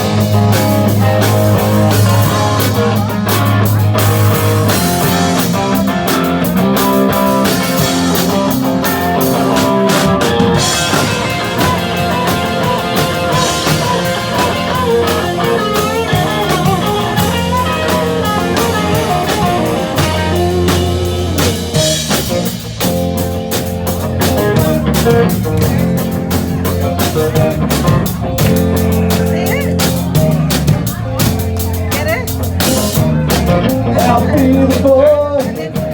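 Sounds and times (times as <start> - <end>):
drum kit: 0.0 - 35.9
electric guitar playing: 0.0 - 35.9.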